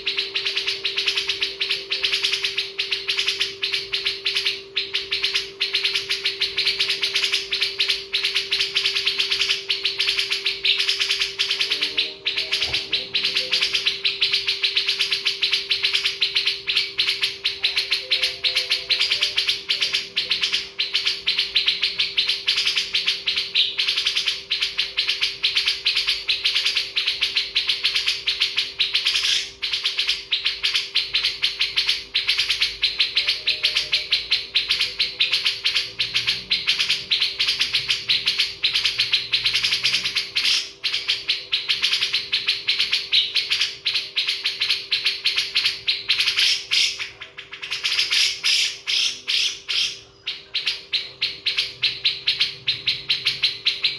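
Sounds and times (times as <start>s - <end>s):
birds chirping: 0.0s - 53.9s
faint steady hum: 0.0s - 53.9s.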